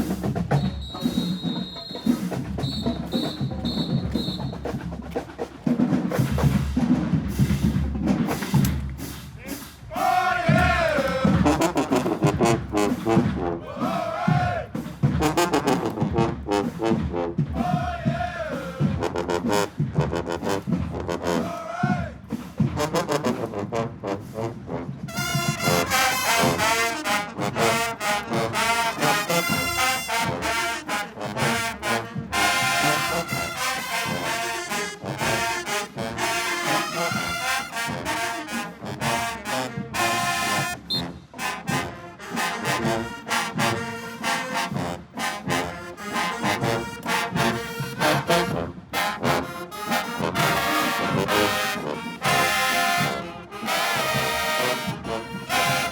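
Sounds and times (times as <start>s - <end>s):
marching band playing: 0.0s - 55.9s
trombones and trumpets: 0.0s - 55.9s.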